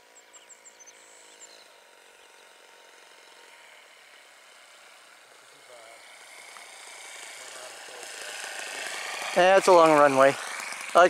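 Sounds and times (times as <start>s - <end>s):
model airplane engine drone: 0.0s - 11.0s
small birds chirping: 0.0s - 11.0s.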